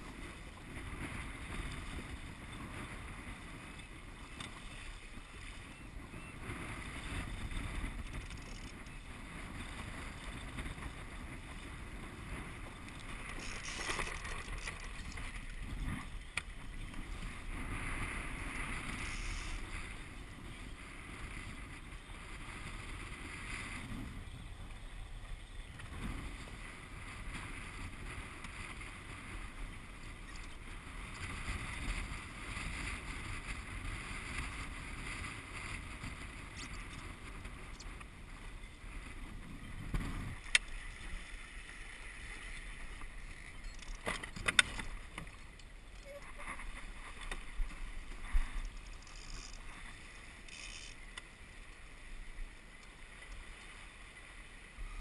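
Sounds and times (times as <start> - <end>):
water splashing along a boat hull: 0.0 - 54.8
wind buffeting microphone: 0.0 - 55.0.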